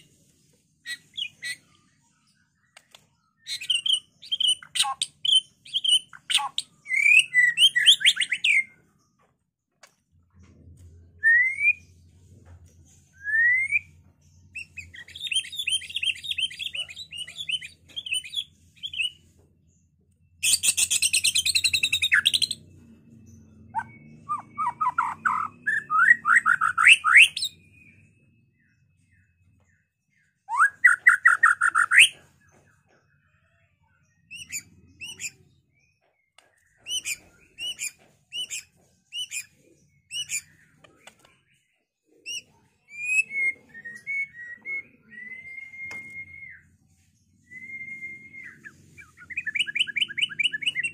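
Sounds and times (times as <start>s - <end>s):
songbird singing whistles and trills: 0.8s - 8.9s, 11.0s - 12.0s, 13.1s - 19.3s, 20.3s - 50.9s.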